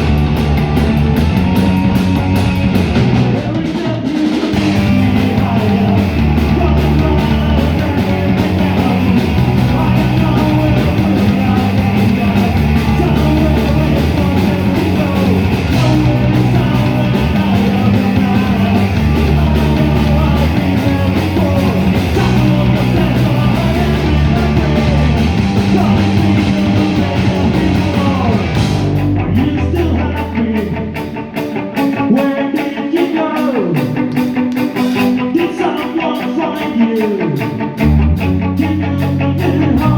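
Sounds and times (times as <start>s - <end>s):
bass guitar: 0.0s - 39.9s
distorted electric guitar: 0.0s - 39.9s
drums: 0.0s - 39.9s.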